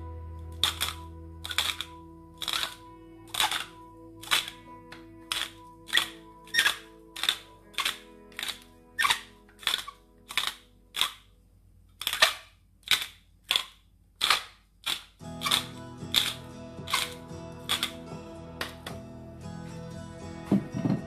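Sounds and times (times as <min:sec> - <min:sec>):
background music with held chords: 0:00.0 - 0:11.4, 0:15.2 - 0:21.0.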